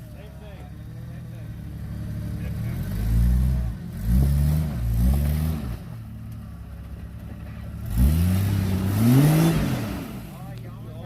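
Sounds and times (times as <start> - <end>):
suv engine revving: 0.1 - 10.7.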